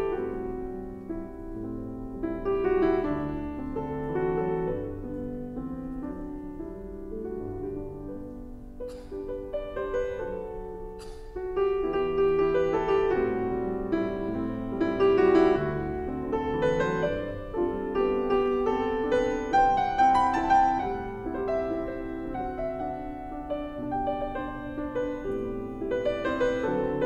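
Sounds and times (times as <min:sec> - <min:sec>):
slow piano music: 0:00.0 - 0:27.0.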